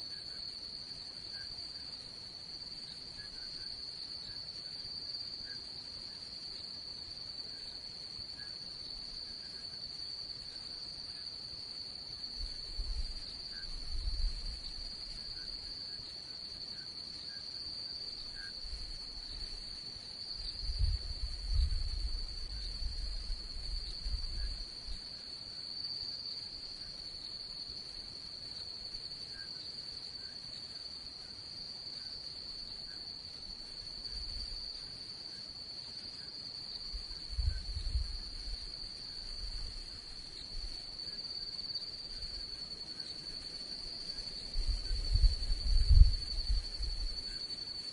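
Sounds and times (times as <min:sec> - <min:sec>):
crickets trilling: 0:00.0 - 0:47.9.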